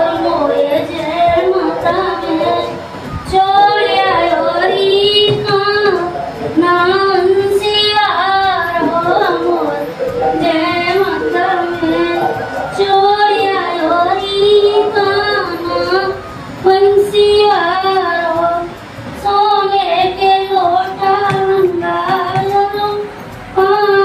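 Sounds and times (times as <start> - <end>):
high voice singing slow melody: 0.0 - 24.0.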